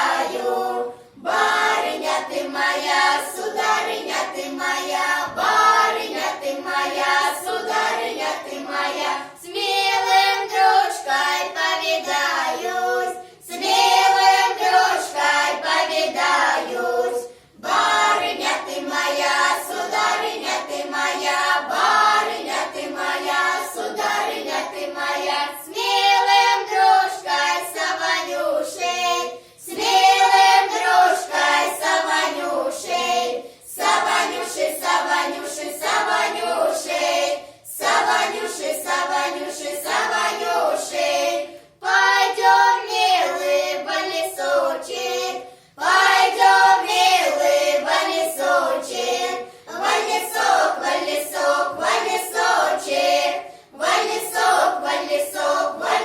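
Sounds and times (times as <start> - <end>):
choir singing a folk song: 0.0 - 56.0.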